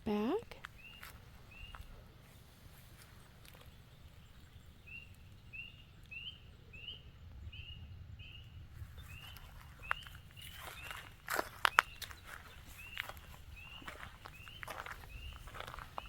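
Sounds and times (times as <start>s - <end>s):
faint low rumble: 0.0s - 16.0s
bird chirping: 0.1s - 16.0s.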